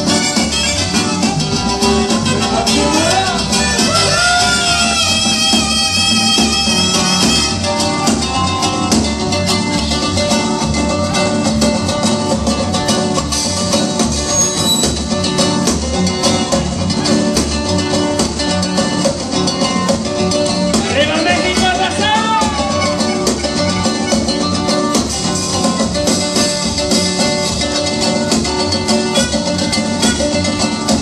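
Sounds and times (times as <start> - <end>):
latin dance band music: 0.0 - 31.0.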